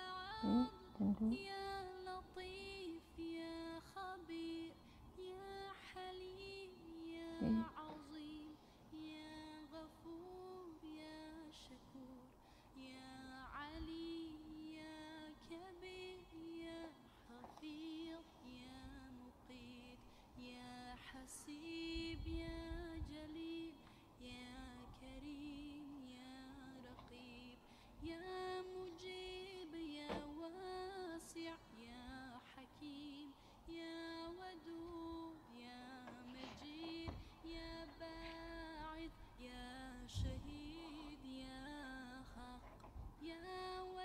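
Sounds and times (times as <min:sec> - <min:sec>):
woman singing softly: 0:00.0 - 0:44.0.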